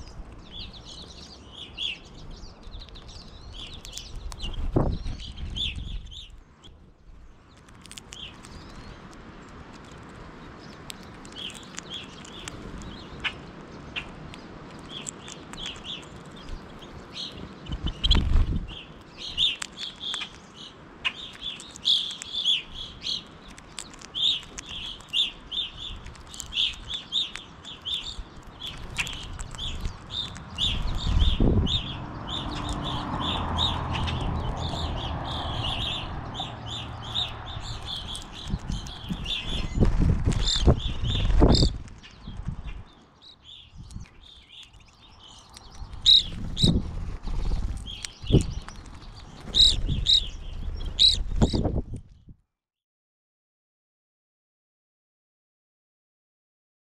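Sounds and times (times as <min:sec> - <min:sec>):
finches chirping: 0:00.0 - 0:06.4, 0:10.4 - 0:51.9.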